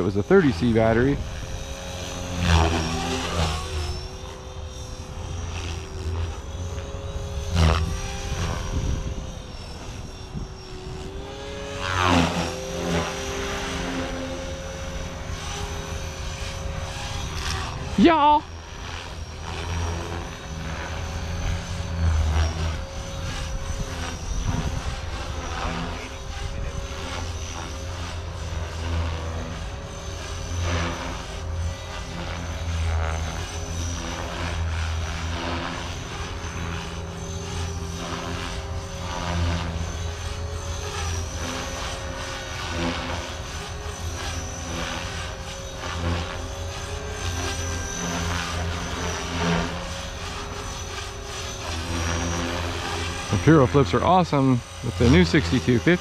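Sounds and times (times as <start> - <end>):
rc helicopter rotor whine: 0.0 - 56.0.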